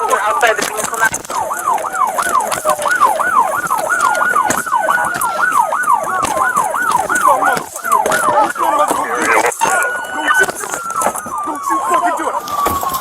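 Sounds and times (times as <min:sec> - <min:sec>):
police siren wail: 0:00.0 - 0:13.0
police siren yelp: 0:00.0 - 0:13.0.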